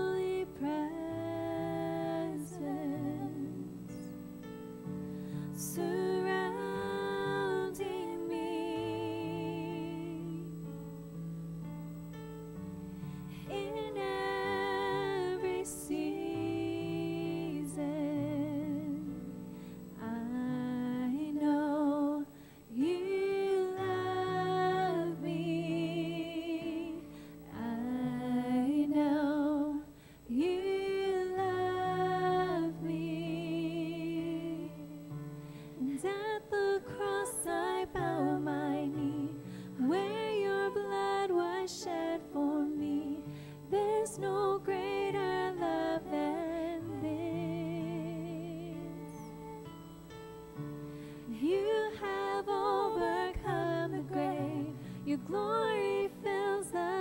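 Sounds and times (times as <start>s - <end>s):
woman singing with vibrato: 0.0s - 4.1s, 5.5s - 10.7s, 13.4s - 19.2s, 20.0s - 35.2s, 35.8s - 49.7s, 51.3s - 57.0s.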